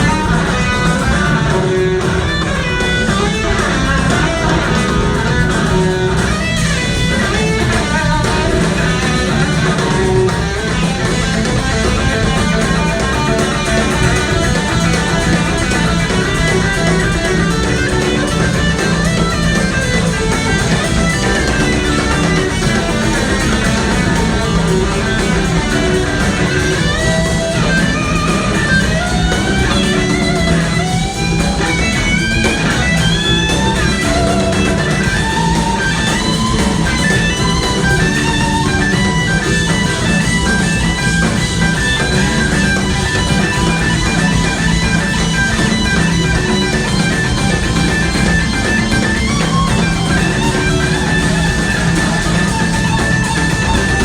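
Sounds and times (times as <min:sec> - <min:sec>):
bass and drums: 0:00.0 - 0:54.0
electric guitar lead: 0:00.0 - 0:54.0.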